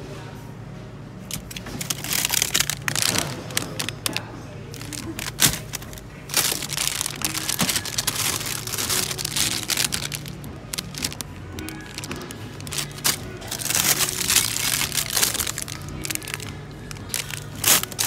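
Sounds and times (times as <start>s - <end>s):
plastic wrappers crinkling: 1.3s - 18.0s.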